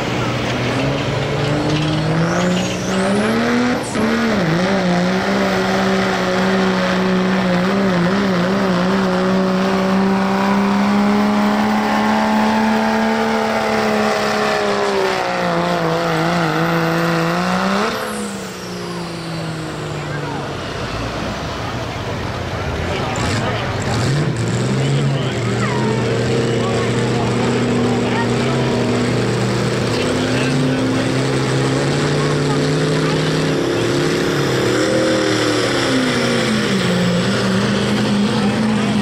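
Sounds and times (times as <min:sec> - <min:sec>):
diesel truck engine revving: 0:00.0 - 0:39.0.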